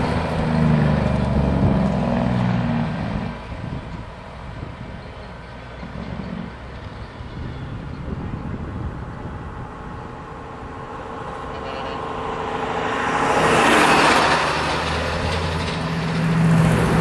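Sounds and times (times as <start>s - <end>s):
diesel trucks driving past: 0.0s - 17.0s
truck engine droning on hard throttle: 0.0s - 17.0s.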